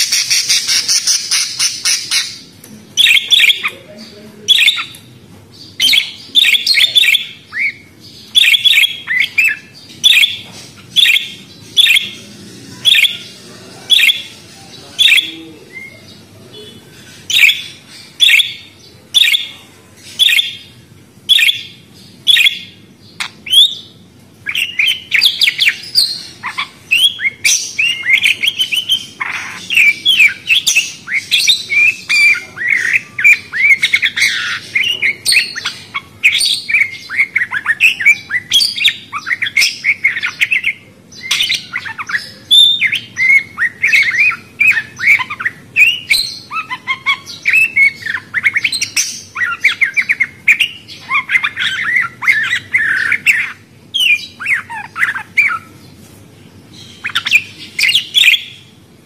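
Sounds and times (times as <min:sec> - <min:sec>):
parrots chattering: 0:00.0 - 0:59.0.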